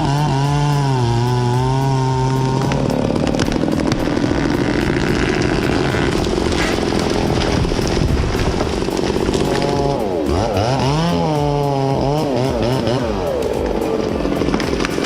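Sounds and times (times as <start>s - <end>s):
chainsaw running at high speed: 0.0s - 15.0s
low engine drone: 0.0s - 15.0s.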